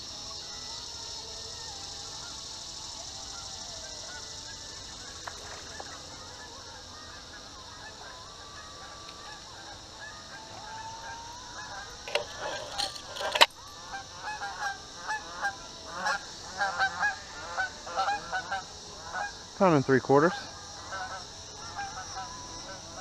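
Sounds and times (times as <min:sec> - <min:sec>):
geese honking: 0:00.0 - 0:23.0.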